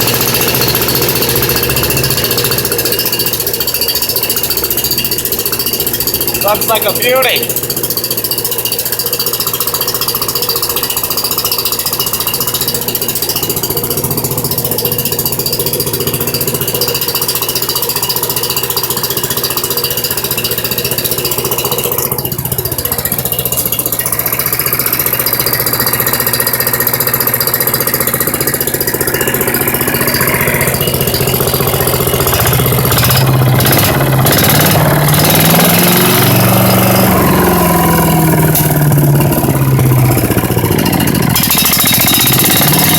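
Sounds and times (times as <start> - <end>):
engine revving: 0.0 - 42.9
wood chipper engine running: 0.0 - 42.9.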